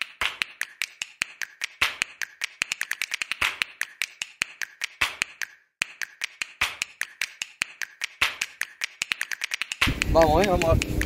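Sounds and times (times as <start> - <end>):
quick snaps and taps beat: 0.0 - 11.0.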